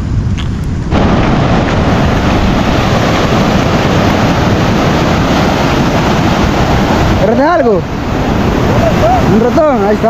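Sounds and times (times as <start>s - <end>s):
wind on microphone: 0.0s - 10.0s
ocean surf breaking: 0.8s - 10.0s.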